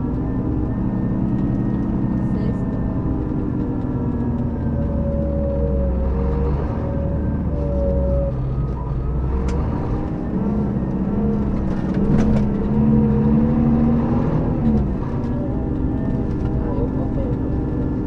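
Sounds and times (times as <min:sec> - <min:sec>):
coach engine running under load: 0:00.0 - 0:18.0.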